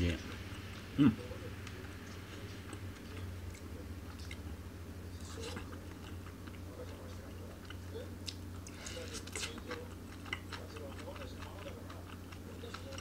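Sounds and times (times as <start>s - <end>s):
steady low hum: 0.0s - 13.0s
person chewing: 1.6s - 4.5s, 5.1s - 13.0s.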